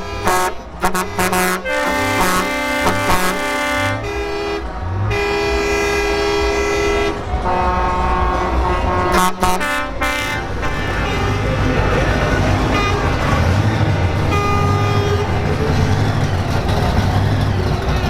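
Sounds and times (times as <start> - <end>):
low engine rumble: 0.0 - 18.0
truck air horns: 0.0 - 18.0.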